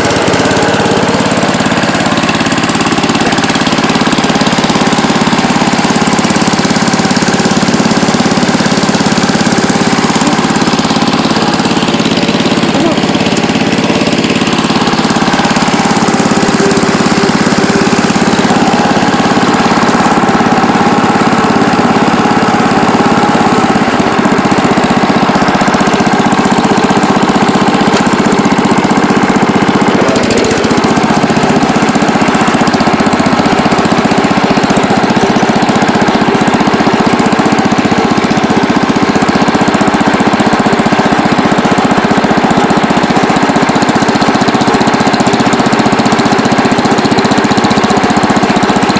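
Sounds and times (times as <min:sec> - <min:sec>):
garden tractor engine running: 0:00.0 - 0:48.9.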